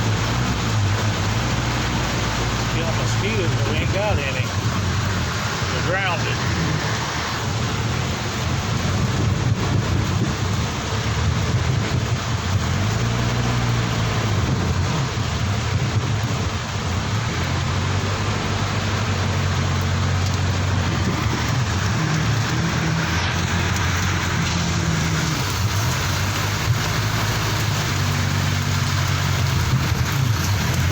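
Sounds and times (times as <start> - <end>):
heavy rain falling: 0.0 - 30.9
vehicle engine hum: 0.0 - 30.9.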